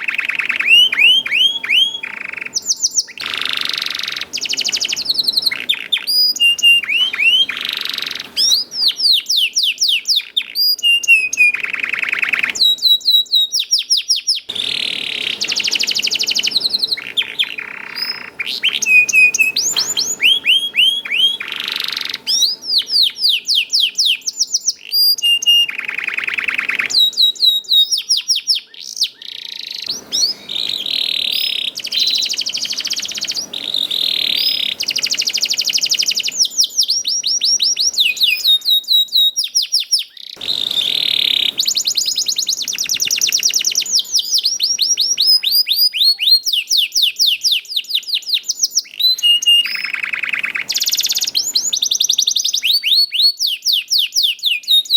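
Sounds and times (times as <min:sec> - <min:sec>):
canary singing trills and chirps: 0:00.0 - 0:54.9.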